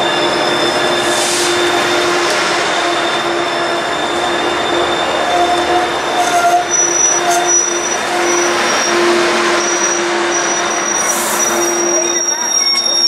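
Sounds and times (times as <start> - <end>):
thin high-pitched wheel squeal: 0.0 - 13.0
train wheels rushing on rail: 0.0 - 13.0.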